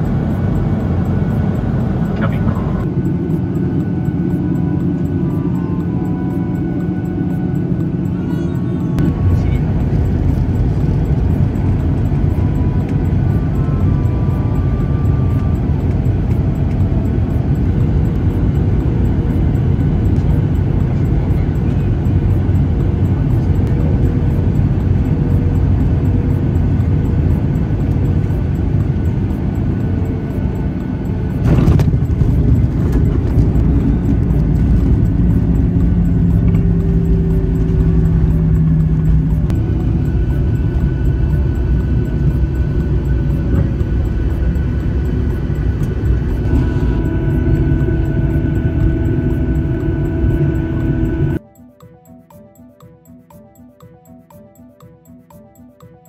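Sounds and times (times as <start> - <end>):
jet engine and airflow rumble: 0.0 - 51.4.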